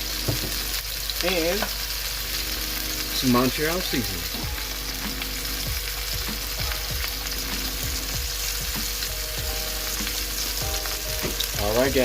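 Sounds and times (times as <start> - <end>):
burger patty sizzling in a pan: 0.0 - 12.0.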